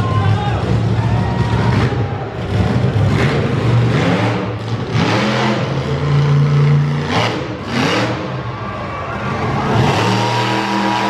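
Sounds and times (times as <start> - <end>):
truck engine revving: 0.2 - 11.0.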